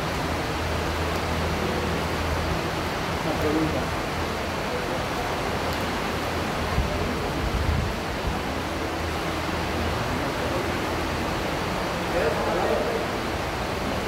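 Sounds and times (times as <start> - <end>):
rushing hiss of recording noise: 0.0 - 14.0.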